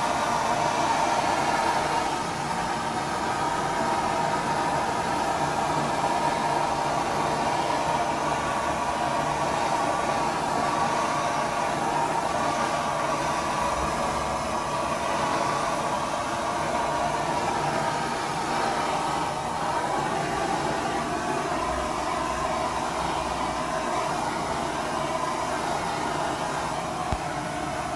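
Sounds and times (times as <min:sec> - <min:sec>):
blowtorch hissing: 0:00.0 - 0:27.9.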